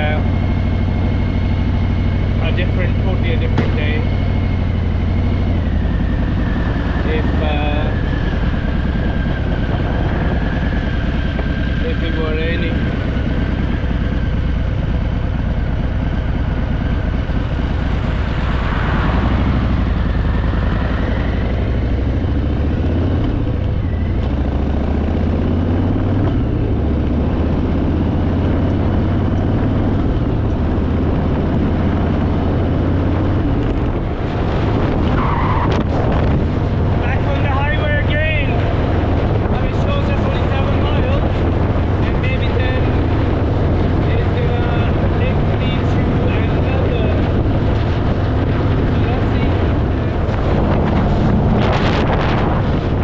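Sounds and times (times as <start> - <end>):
motorcycle engine running: 0.0 - 53.0
road noise rushing: 0.0 - 53.0.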